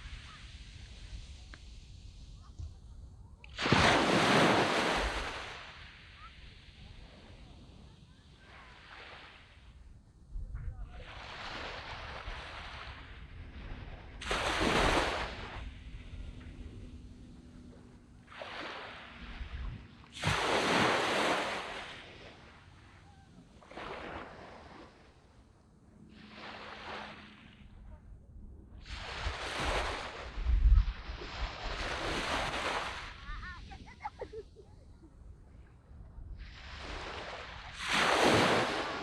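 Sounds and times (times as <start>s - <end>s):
waves breaking on beach: 0.0s - 10.0s, 10.8s - 28.2s, 28.8s - 39.0s.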